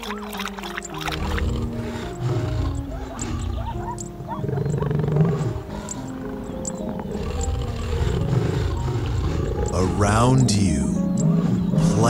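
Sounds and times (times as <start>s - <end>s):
background music: 0.0s - 12.0s
lion growling: 0.0s - 12.0s.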